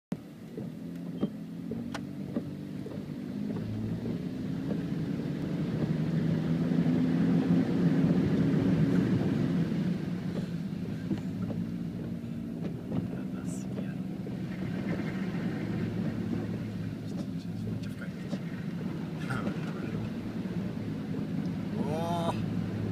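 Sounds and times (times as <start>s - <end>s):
car engine running: 0.1s - 22.9s
water rushing: 0.3s - 22.9s.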